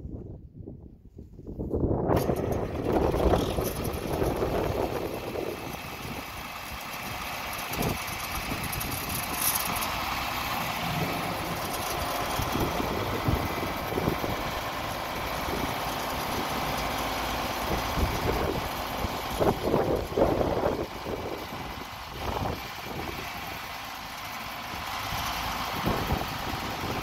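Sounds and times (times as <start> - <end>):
tractor engine running: 1.7 - 27.0.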